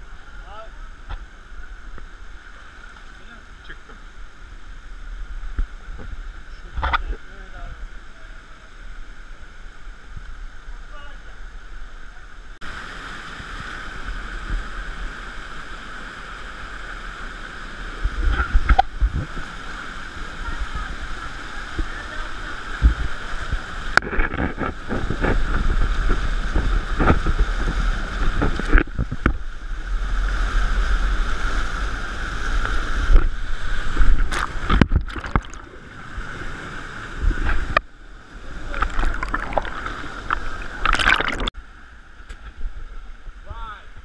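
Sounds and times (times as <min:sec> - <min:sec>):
stream water running: 0:00.0 - 0:44.0.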